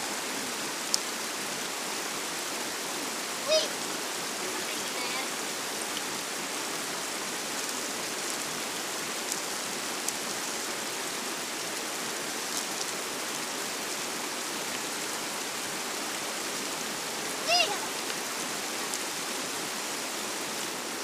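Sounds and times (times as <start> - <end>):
river water rushing over stones: 0.0 - 21.0.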